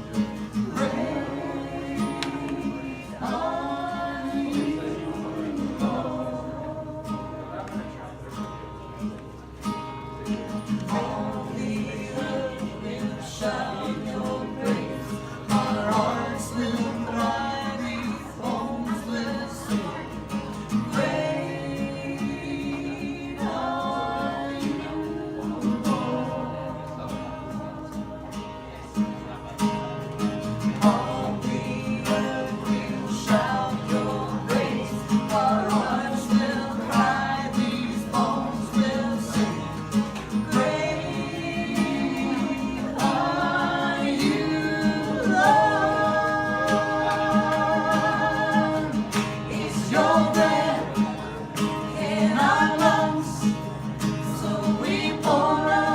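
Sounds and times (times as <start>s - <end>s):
people singing: 0.0s - 8.4s, 10.2s - 29.6s, 30.2s - 55.9s
strummed guitar: 0.0s - 55.9s.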